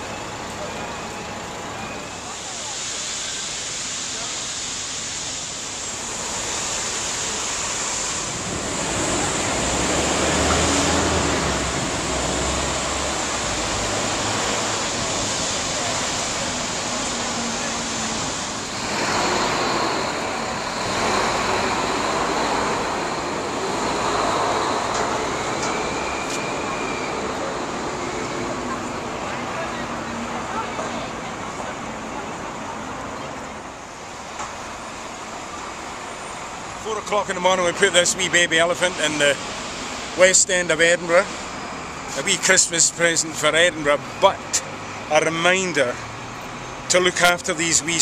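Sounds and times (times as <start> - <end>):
passing road vehicles: 0.0 - 48.0.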